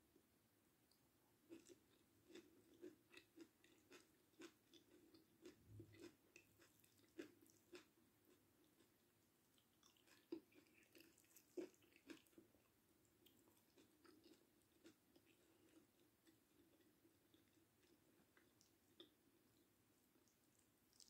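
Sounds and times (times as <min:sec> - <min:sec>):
close-miked chewing: 0:01.5 - 0:21.0.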